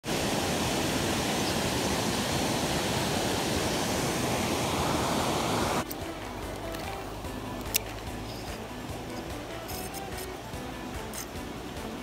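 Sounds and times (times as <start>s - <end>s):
river water running over stones: 0.0s - 12.0s.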